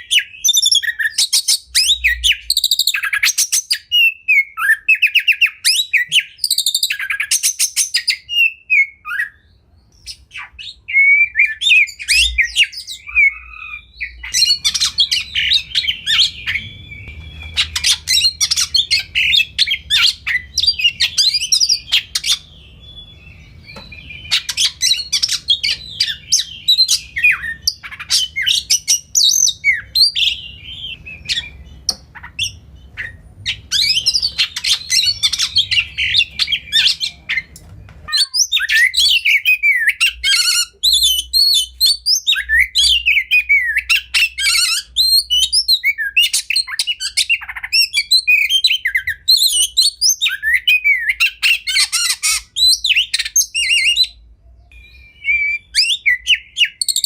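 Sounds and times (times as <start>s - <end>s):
bird singing whistled song: 0.0s - 57.0s
low background hum: 0.0s - 57.0s.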